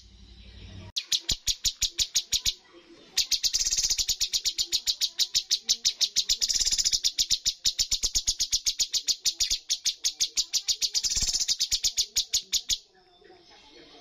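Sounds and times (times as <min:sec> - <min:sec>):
bird singing high chirps: 0:00.6 - 0:13.2.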